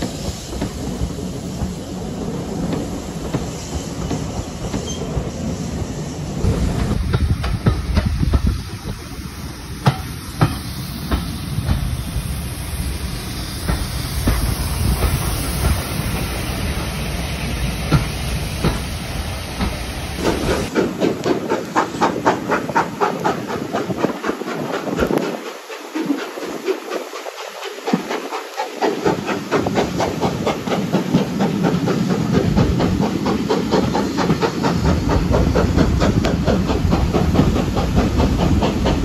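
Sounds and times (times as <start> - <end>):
steam locomotive chuffing: 0.0 - 39.0
steam locomotive hissing: 0.0 - 39.0.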